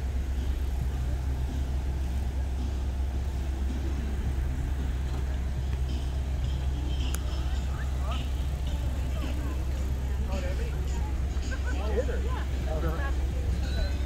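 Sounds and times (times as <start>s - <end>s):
slow road traffic rumble: 0.0s - 14.0s.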